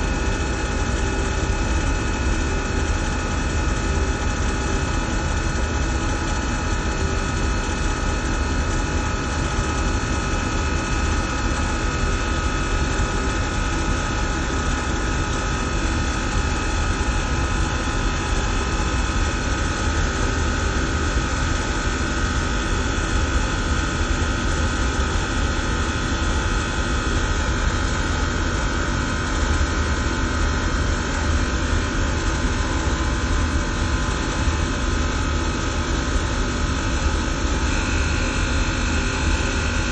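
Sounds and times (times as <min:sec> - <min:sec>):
steady high whine: 0:00.0 - 0:39.9.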